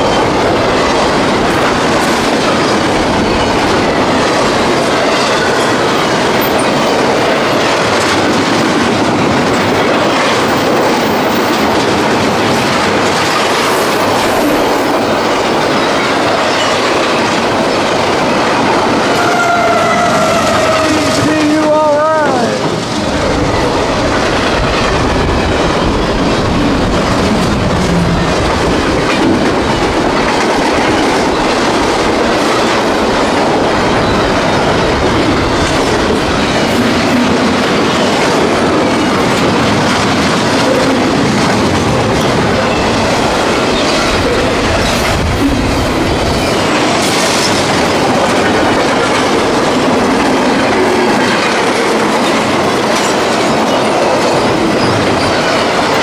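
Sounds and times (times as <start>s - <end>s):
clickety-clack over rail joints: 0.0s - 56.0s
train wheels rumbling on rails: 0.0s - 56.0s.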